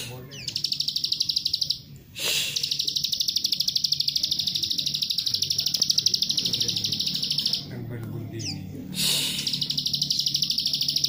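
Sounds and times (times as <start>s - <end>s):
bird trilling: 0.0s - 11.0s.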